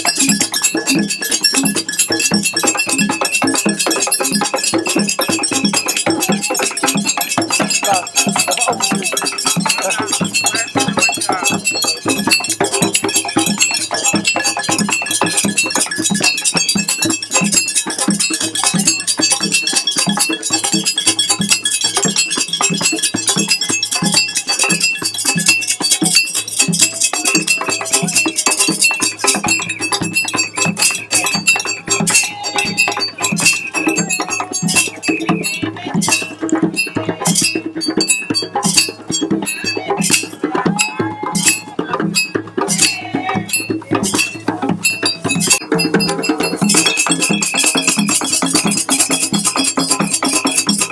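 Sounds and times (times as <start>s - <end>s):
hand drums playing: 0.0s - 50.9s
ringing metal percussion: 0.0s - 50.9s.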